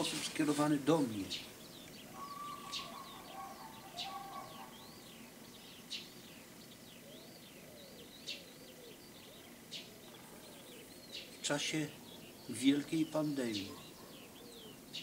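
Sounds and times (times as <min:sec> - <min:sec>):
faint low bird calls: 0:00.0 - 0:15.0
small birds chirping: 0:00.0 - 0:15.0.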